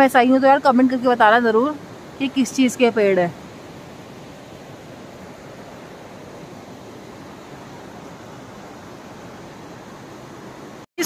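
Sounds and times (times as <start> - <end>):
water rushing: 0.0 - 10.9.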